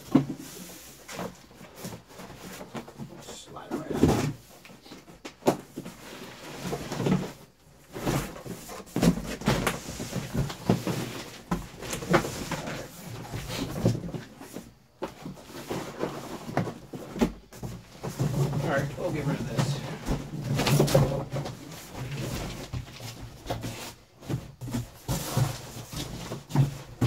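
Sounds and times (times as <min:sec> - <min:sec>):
cardboard carton scraping and knocking: 0:00.0 - 0:27.0.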